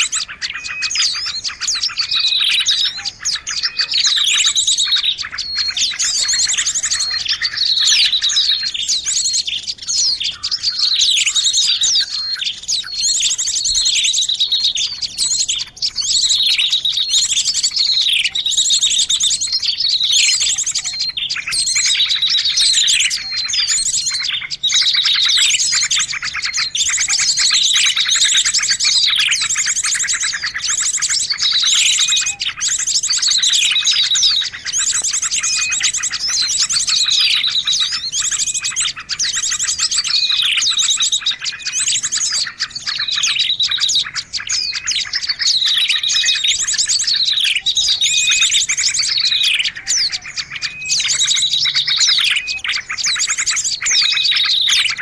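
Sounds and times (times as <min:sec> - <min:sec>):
chorus of small birds chirping: 0:00.0 - 0:55.0.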